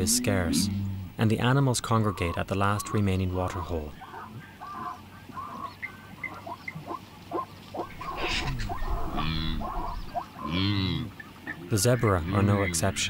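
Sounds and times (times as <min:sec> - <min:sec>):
deep rising and falling animal calls: 0:00.0 - 0:01.2, 0:01.8 - 0:11.7.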